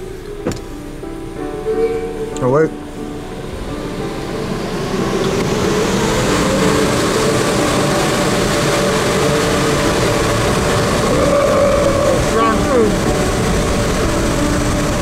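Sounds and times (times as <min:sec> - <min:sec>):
car wash machinery running: 0:00.0 - 0:15.0.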